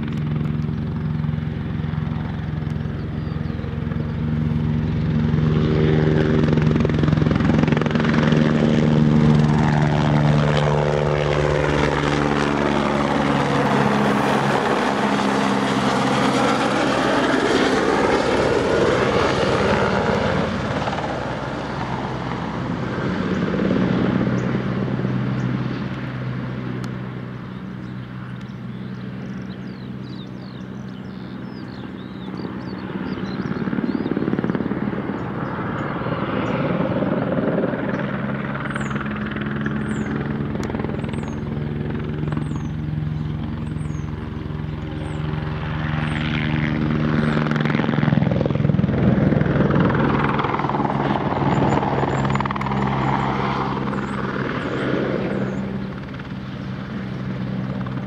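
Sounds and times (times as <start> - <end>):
helicopter rotor and turbine: 0.0 - 58.0.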